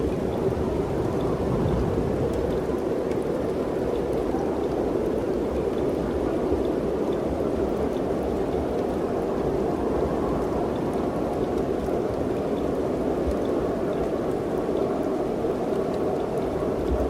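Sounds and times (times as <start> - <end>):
wind blowing through trees: 0.0 - 17.0.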